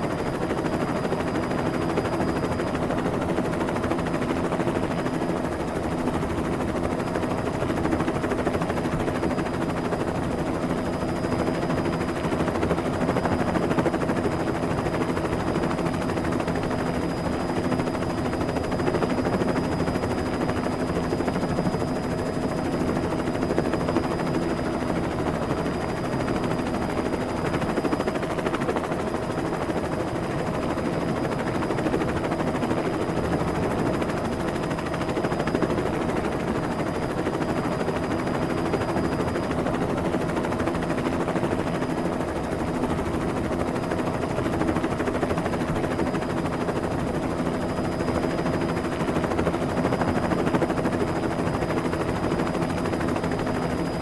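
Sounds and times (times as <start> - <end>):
helicopter engine drone: 0.0 - 54.0.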